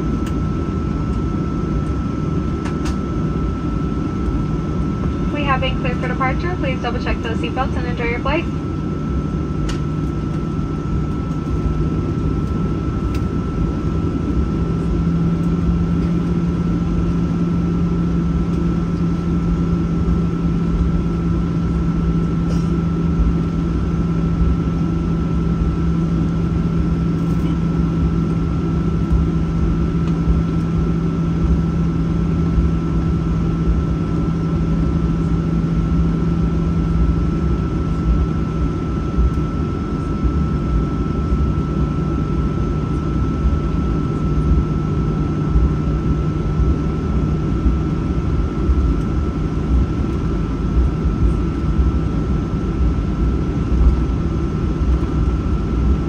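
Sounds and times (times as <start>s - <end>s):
high steady whine: 0.0s - 56.0s
jet engine deep hum: 0.0s - 56.0s.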